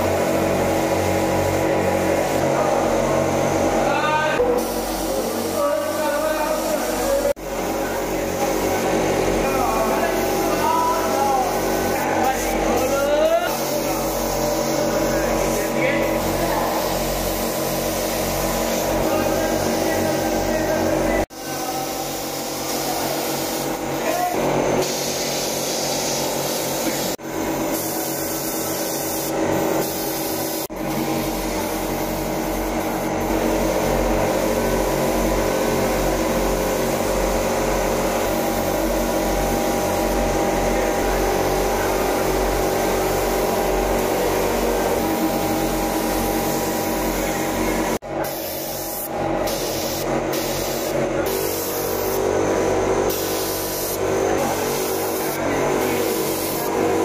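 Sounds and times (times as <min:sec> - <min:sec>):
spray gun hissing: 0:00.0 - 0:57.0.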